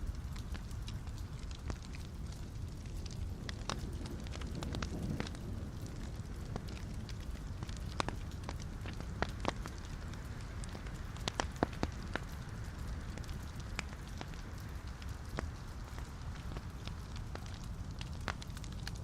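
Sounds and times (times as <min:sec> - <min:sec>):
fire crackles and pops: 0:00.0 - 0:19.0
fire low rumble: 0:00.0 - 0:19.0.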